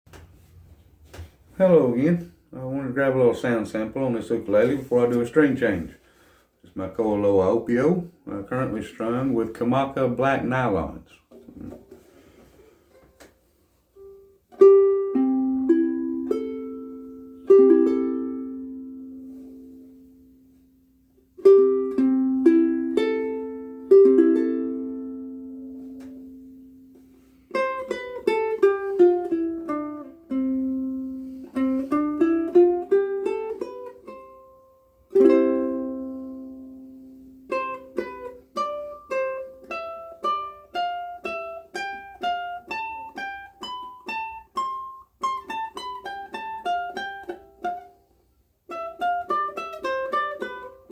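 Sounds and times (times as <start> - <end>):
ukulele playing: 0.1 - 5.9, 12.9 - 50.9.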